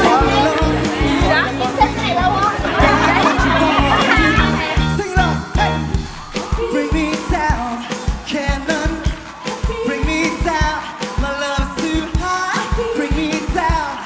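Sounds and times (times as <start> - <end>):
pop song with vocals: 0.0 - 14.0.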